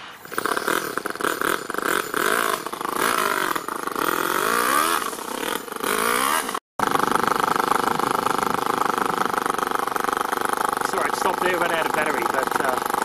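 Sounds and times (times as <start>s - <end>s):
nitro engine revving: 0.0s - 13.0s.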